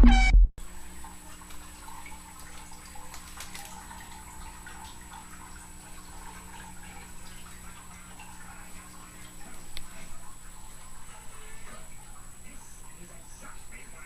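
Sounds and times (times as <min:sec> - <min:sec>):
faint electrical hum: 0:00.1 - 0:14.0.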